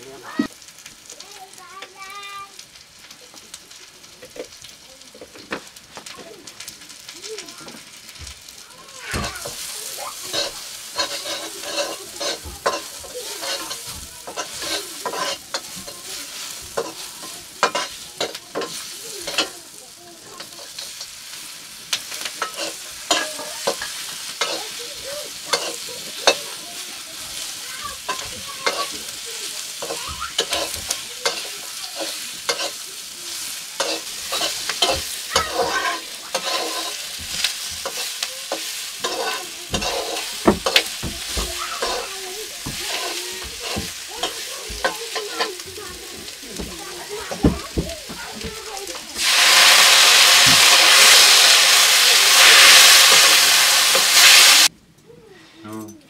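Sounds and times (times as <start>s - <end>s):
food sizzling in a wok: 0.0s - 54.7s
metal spatula scraping a pan: 9.2s - 54.7s.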